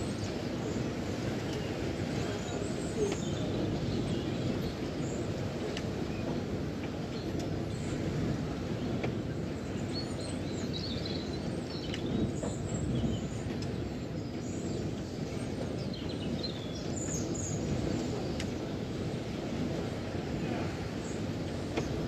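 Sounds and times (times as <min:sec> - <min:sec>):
small birds chirping: 0:00.0 - 0:22.0
wind rumbling: 0:00.0 - 0:22.0.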